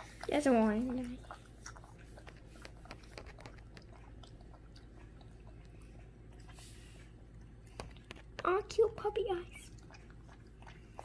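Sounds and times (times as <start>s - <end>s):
puppy lapping milk: 0.0s - 11.0s.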